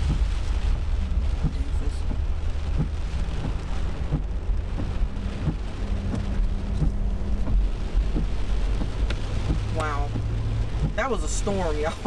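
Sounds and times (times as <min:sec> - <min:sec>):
heavy rain beating on a truck: 0:00.0 - 0:12.0
storm wind rumble: 0:00.0 - 0:12.0.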